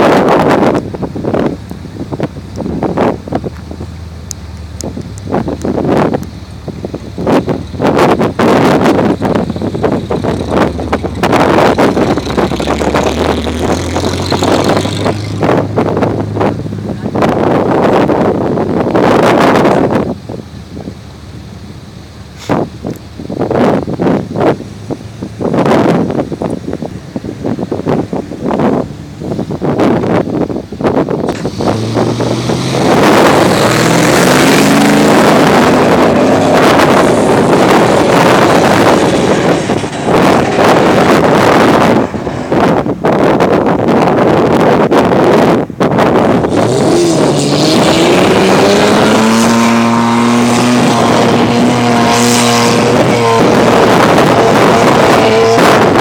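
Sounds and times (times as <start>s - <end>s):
engine working hard: 0.0s - 56.0s
wind buffeting microphone: 0.0s - 56.0s.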